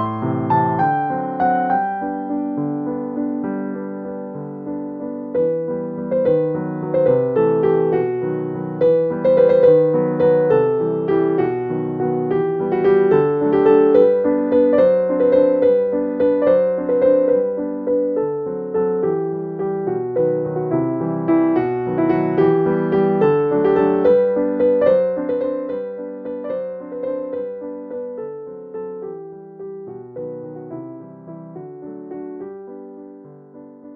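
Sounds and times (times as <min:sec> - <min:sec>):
gentle piano melody: 0:00.0 - 0:33.9.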